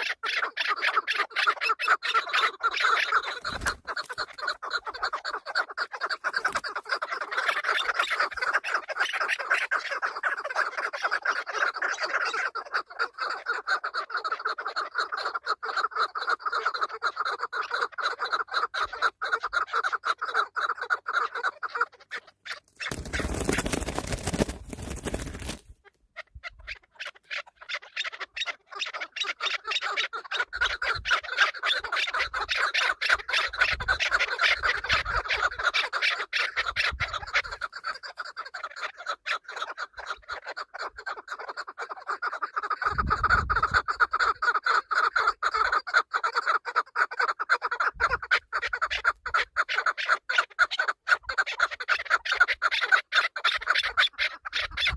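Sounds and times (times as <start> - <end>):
partridge clucking calls: 0.0 - 54.9.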